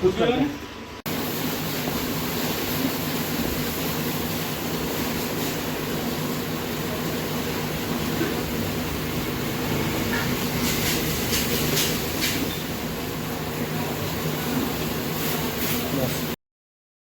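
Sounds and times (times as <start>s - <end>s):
machine droning: 0.0s - 15.6s.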